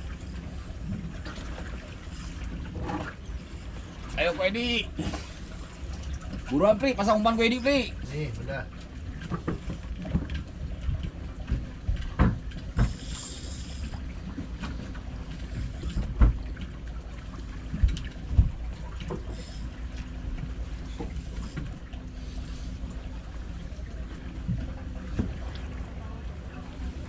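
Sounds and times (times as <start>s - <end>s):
boat engine rumble: 0.0s - 27.0s.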